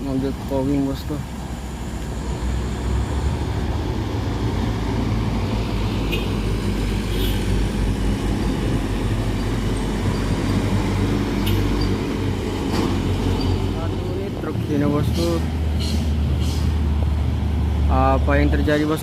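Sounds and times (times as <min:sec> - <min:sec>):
truck diesel engines rumbling: 0:00.0 - 0:19.0.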